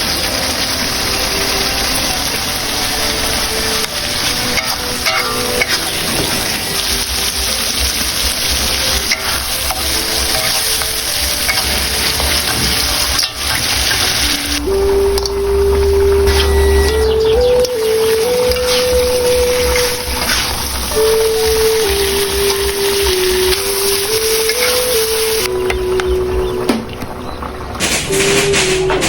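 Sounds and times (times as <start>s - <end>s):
food sizzling in a pan: 0.0s - 27.8s.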